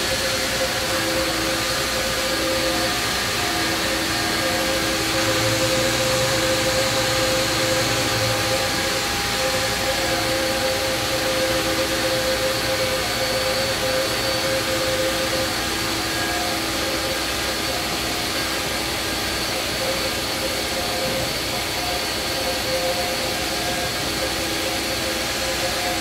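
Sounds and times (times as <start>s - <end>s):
machining center whirring: 0.0s - 26.0s.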